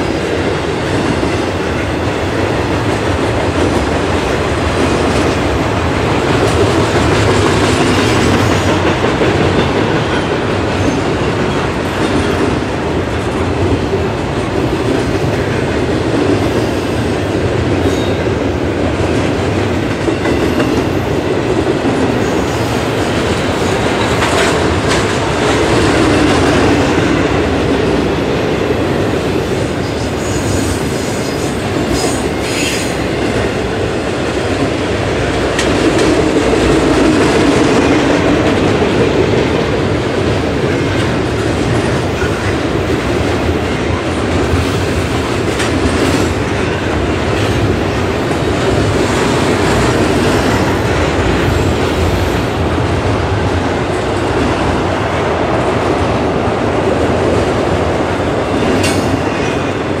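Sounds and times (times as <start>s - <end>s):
train wheels running on rail: 0.0s - 60.0s.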